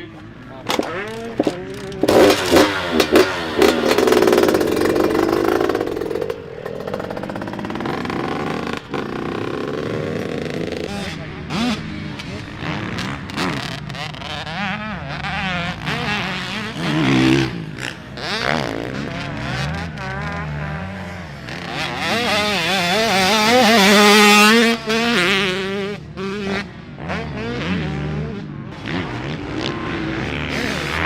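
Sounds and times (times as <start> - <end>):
racing engines revving and passing: 0.0 - 31.0.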